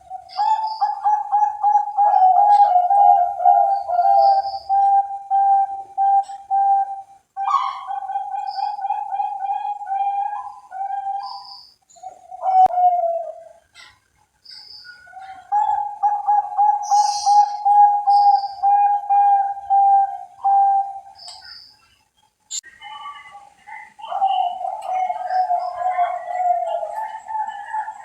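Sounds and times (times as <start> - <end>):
dove cooing: 0.0 - 14.0, 14.9 - 21.4, 22.7 - 28.0.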